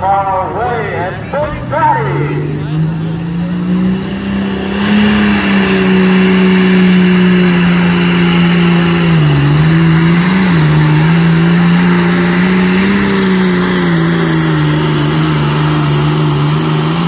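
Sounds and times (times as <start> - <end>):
vehicle engine at high revs: 0.0 - 17.0.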